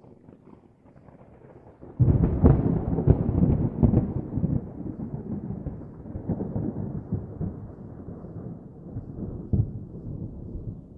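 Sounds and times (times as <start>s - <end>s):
thunder rumble with crackles: 0.0s - 10.9s.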